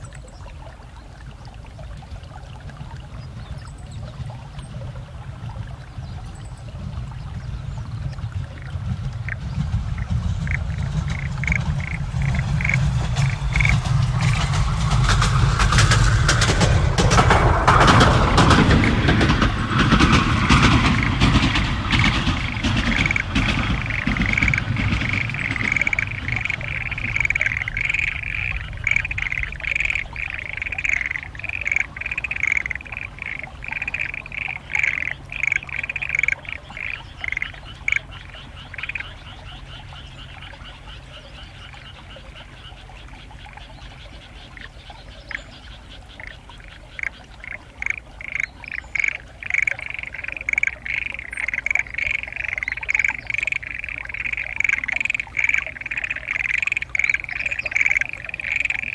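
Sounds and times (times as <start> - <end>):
frogs croaking: 0.0 - 58.9.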